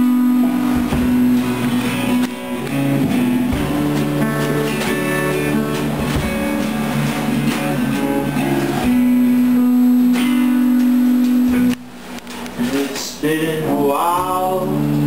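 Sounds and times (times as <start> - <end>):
guitars strumming chords: 0.0 - 15.0.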